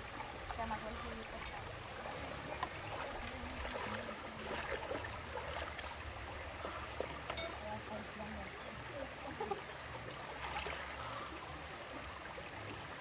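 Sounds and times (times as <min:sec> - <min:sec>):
river babbling over rocks: 0:00.0 - 0:13.0
small water splashes: 0:00.0 - 0:13.0.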